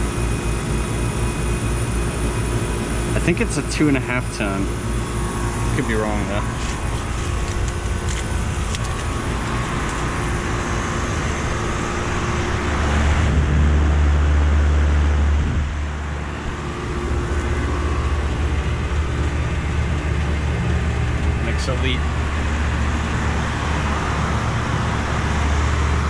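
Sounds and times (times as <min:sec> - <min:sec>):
heat pump fan and compressor hum: 0:00.0 - 0:26.0
low rumble: 0:03.2 - 0:26.0.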